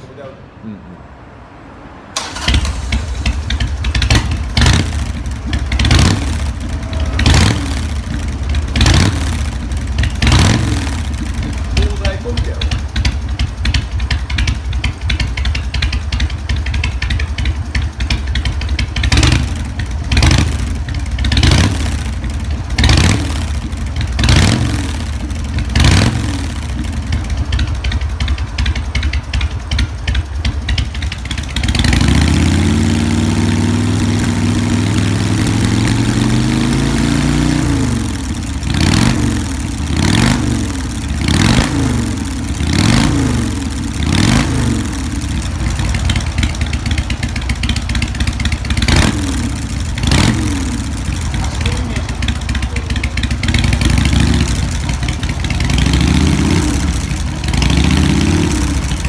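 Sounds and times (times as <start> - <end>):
motorcycle engine revving: 2.2 - 59.0.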